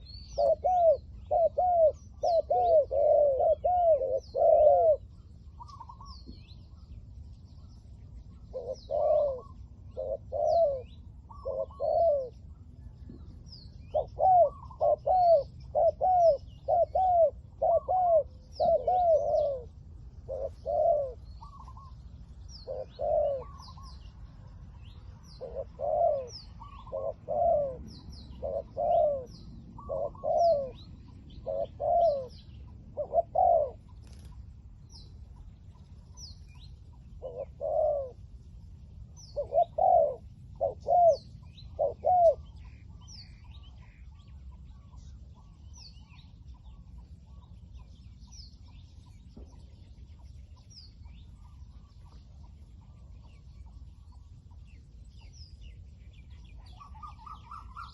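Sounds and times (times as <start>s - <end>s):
dove cooing: 0.0s - 6.4s, 7.6s - 34.8s, 35.4s - 38.4s, 39.1s - 48.0s, 56.3s - 57.9s
small birds chirping faintly: 0.0s - 57.9s.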